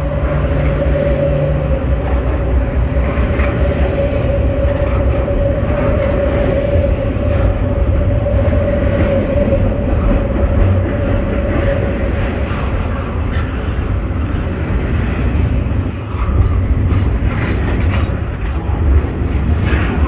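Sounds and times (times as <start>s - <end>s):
constant whining tone: 0.0s - 20.0s
steel wheels rumbling on rail: 0.0s - 20.0s.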